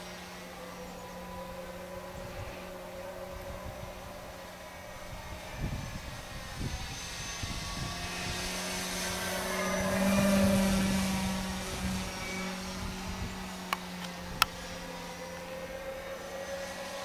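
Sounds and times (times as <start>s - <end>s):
electric model plane motor whining: 0.0s - 17.0s.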